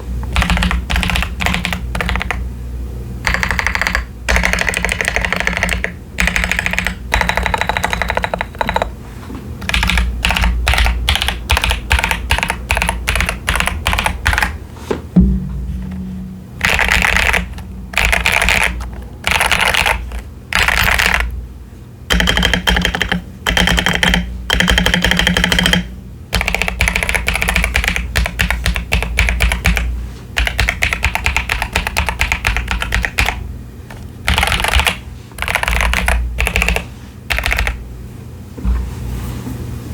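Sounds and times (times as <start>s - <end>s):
mechanical keyboard typing: 0.3s - 2.4s, 3.2s - 8.9s, 9.6s - 14.6s, 16.6s - 21.3s, 22.1s - 37.8s.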